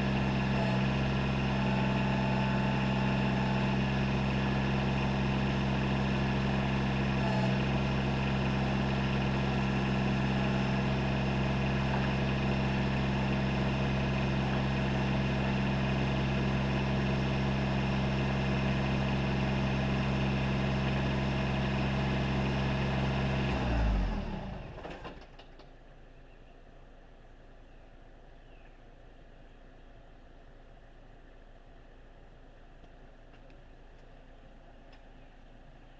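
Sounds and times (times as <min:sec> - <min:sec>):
diesel tractor engine running: 0:00.0 - 0:35.9.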